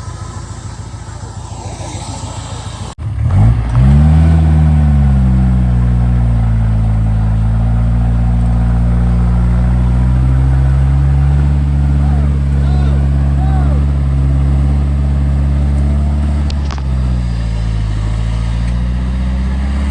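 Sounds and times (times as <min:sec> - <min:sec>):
engine revving: 0:00.0 - 0:19.9.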